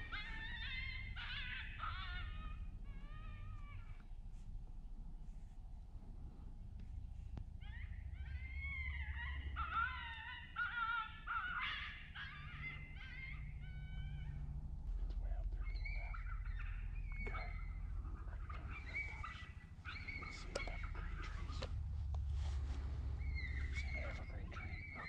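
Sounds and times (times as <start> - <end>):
high-pitched wavering predator call cries: 0.0 - 4.0, 7.6 - 25.0
low steady rumble: 0.0 - 25.0.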